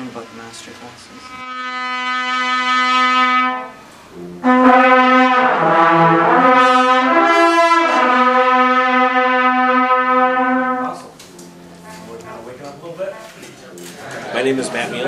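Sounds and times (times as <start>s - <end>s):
brass instruments holding notes: 0.0s - 15.0s.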